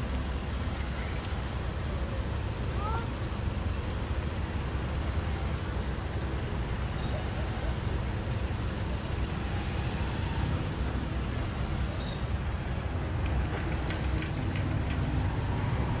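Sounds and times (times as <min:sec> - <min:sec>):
cars passing on street: 0:00.0 - 0:16.0.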